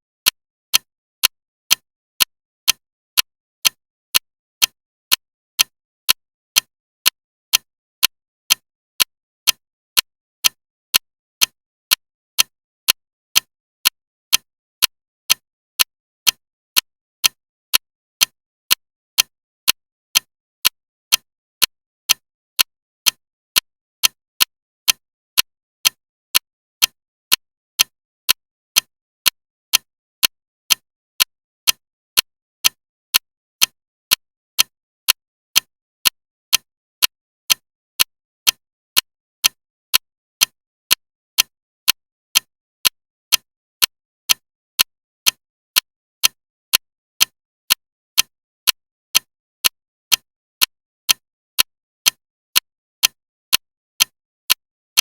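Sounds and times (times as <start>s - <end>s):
clock ticking: 0.2s - 55.0s.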